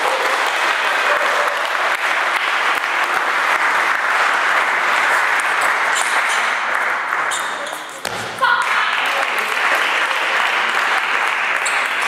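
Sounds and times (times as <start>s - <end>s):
spectators applauding: 0.0s - 7.6s, 8.6s - 12.0s.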